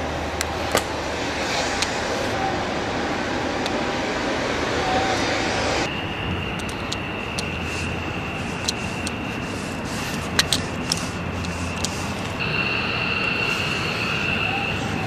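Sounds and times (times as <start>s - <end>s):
jet engines idling: 0.0s - 15.0s.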